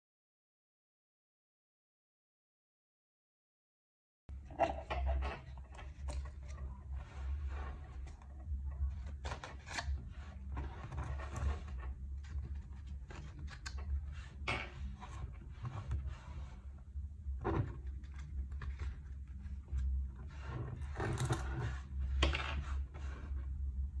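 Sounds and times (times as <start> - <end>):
steady low hum: 4.3 - 24.0.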